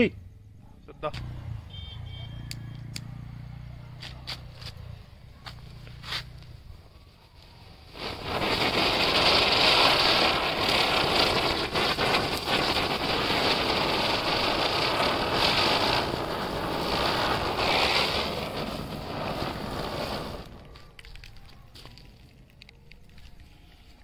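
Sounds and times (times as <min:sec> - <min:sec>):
spinning firecracker hissing: 0:02.7 - 0:22.2.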